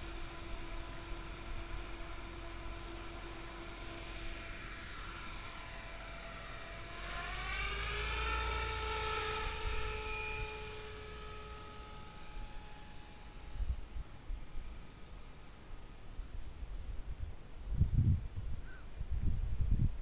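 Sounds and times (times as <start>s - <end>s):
model helicopter whining: 0.0s - 16.0s.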